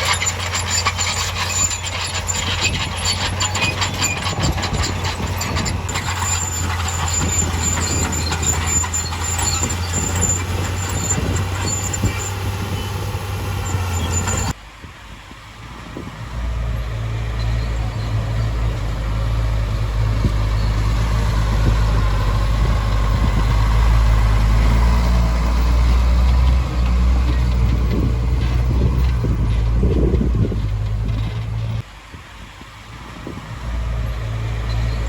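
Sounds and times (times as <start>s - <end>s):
light rattling: 0.0s - 14.6s, 17.4s - 31.8s
heavy diesel engine rumbling: 0.0s - 35.0s.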